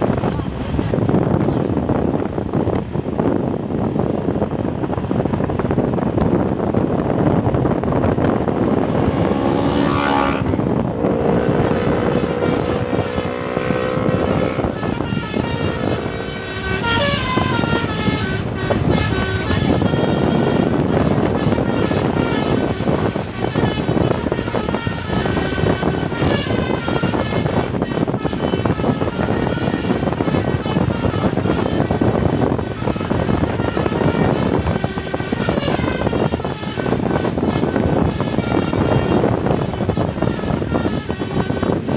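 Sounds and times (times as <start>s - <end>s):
bus and road rumble: 0.0s - 41.9s
musical horn playing a tune: 8.0s - 41.9s.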